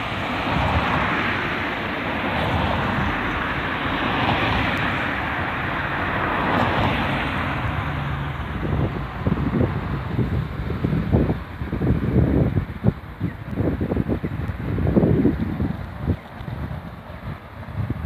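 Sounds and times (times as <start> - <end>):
vehicle going by: 0.0 - 18.0
wind buffeting microphone: 0.0 - 18.0.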